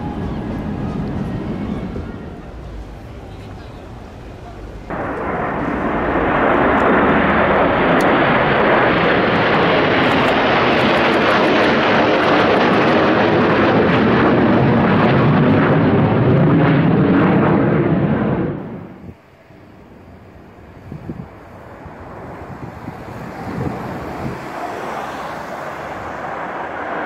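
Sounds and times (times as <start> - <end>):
jets passing low overhead: 0.0 - 27.0.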